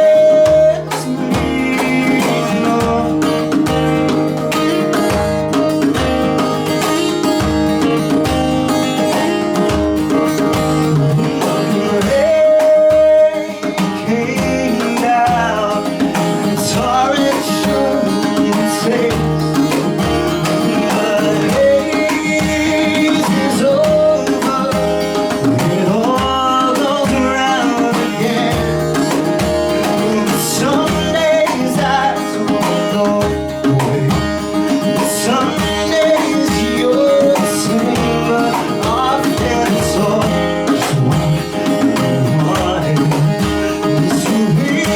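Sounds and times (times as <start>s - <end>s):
band playing guitar-led song: 0.0s - 44.9s.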